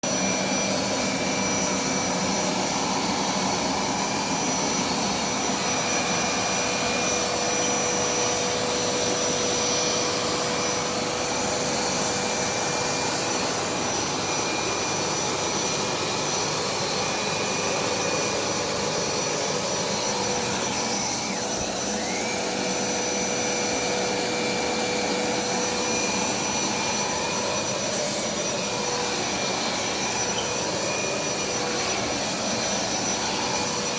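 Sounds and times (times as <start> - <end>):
carpet cleaner running: 0.0 - 33.9.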